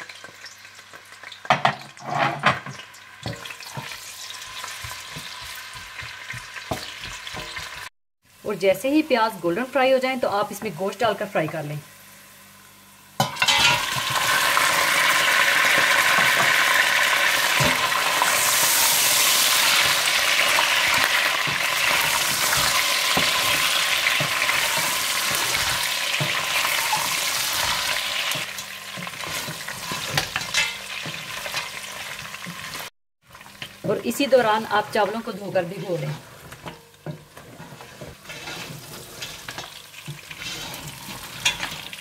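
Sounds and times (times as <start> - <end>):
meat sizzling in hot fat: 0.0 - 42.0.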